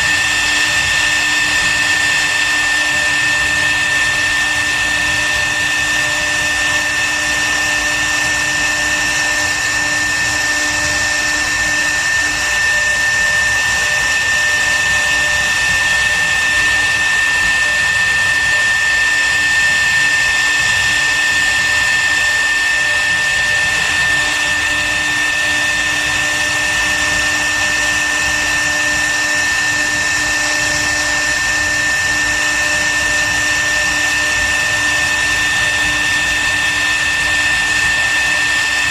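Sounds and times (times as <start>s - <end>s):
router spindle motor whine: 0.0s - 38.9s.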